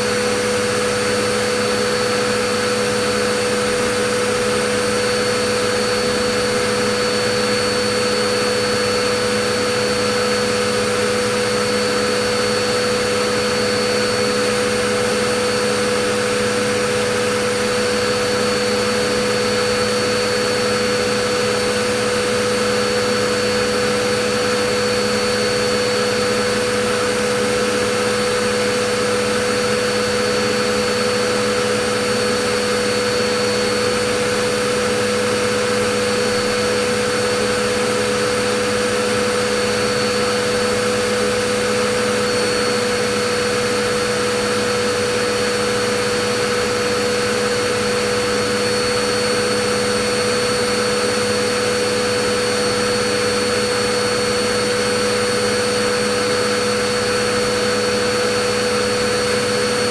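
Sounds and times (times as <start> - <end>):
vacuum cleaner motor running: 0.0 - 59.9.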